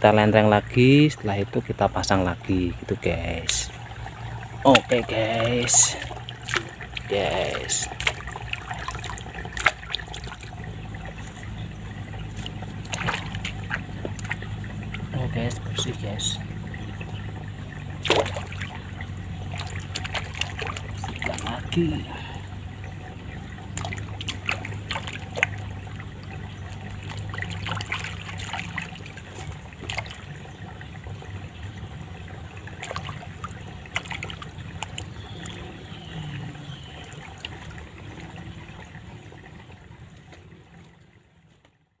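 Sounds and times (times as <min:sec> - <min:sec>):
small splashes and drips: 0:00.0 - 0:42.0
water trickling in a stream: 0:00.0 - 0:42.0.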